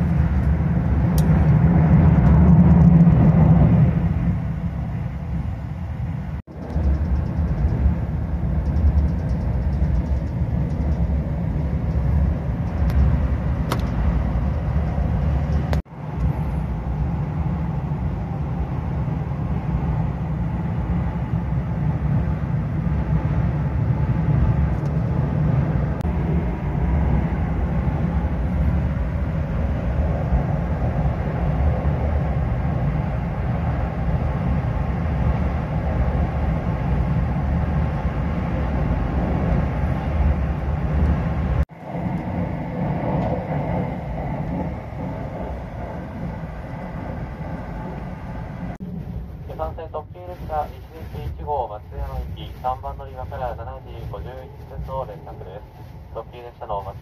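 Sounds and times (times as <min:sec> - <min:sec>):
train rumbling over steel bridge: 0:00.0 - 0:57.0.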